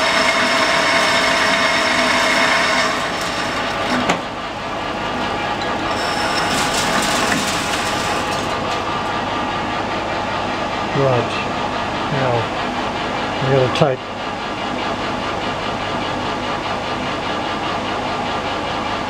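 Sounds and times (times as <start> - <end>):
metal lathe machining: 0.0 - 19.0.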